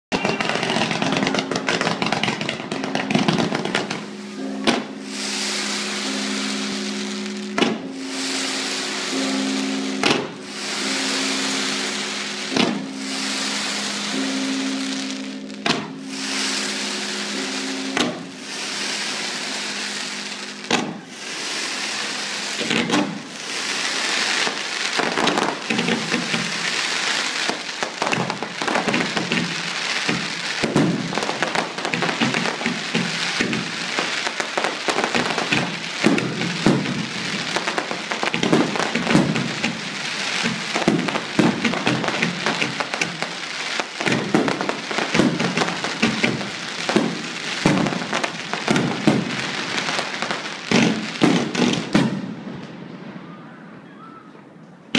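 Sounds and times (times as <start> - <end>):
fireworks hissing crackle: 0.0 - 53.8
fireworks cracking and banging: 0.0 - 54.9.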